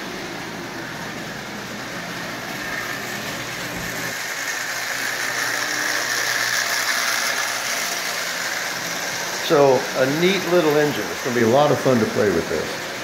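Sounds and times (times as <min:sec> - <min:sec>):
toy train motor whirring: 0:02.0 - 0:13.0.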